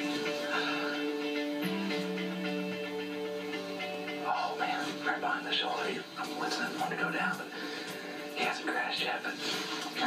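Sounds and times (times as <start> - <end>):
held music notes: 0.0 - 8.4.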